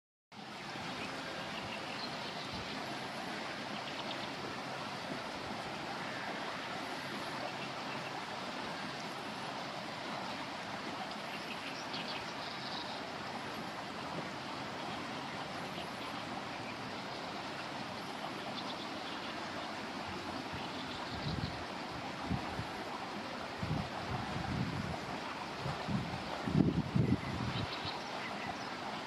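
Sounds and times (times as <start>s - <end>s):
river water rushing: 0.4s - 29.0s.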